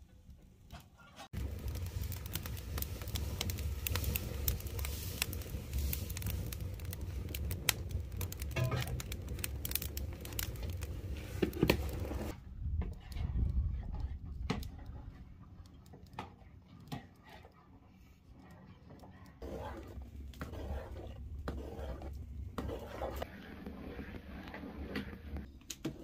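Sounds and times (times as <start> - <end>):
wood fire crackling and popping: 0.2 - 17.6, 18.2 - 26.0.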